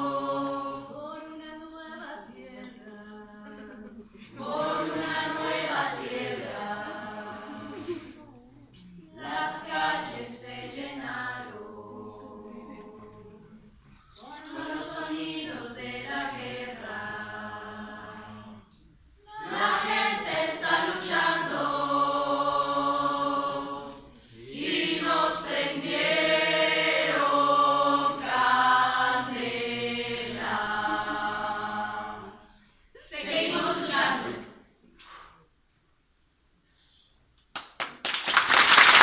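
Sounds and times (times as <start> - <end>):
choir singing long notes: 0.0 - 8.3, 9.1 - 34.6.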